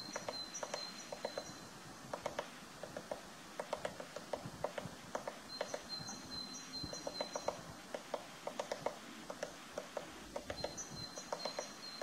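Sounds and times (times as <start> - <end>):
woodpecker tapping on wood: 0.0 - 6.2, 6.8 - 11.8.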